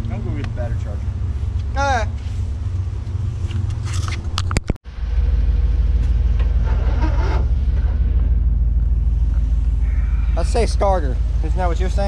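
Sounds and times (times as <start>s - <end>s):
truck engine idling: 0.0s - 3.8s, 4.9s - 12.0s.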